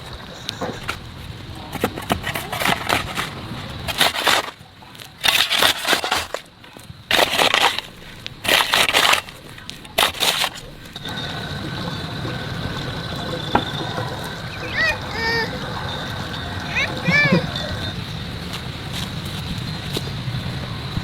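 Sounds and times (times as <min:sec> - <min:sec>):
crackling rustling bursts: 0:00.0 - 0:21.0
faint high hum: 0:00.0 - 0:21.0.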